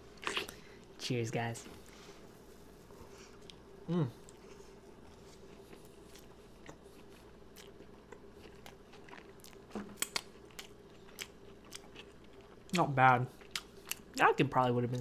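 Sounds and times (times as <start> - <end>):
person chewing food: 0.1 - 0.9, 2.7 - 15.0.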